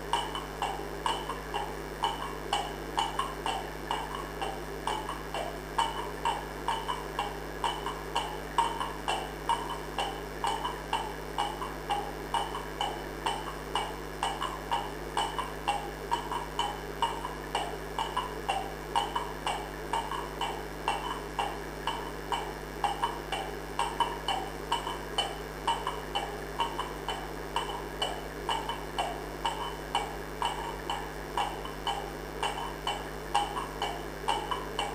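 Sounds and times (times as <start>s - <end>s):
constant low hum: 0.0s - 34.9s
steady rhythmic pulse: 0.0s - 34.9s.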